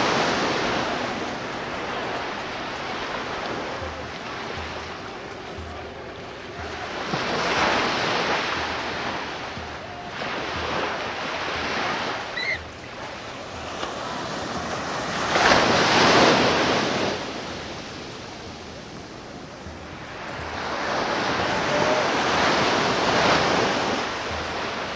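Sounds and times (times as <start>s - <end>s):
ocean surf breaking on beach: 0.0s - 24.9s.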